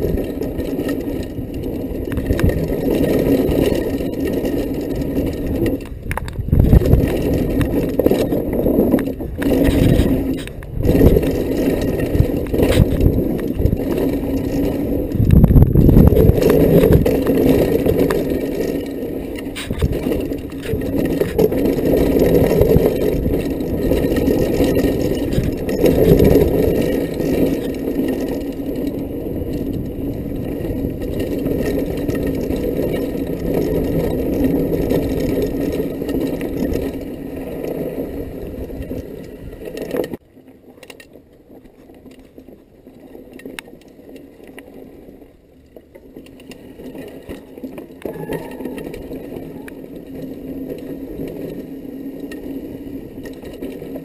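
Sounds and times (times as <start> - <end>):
bike rattling over rough ground: 0.0 - 54.0.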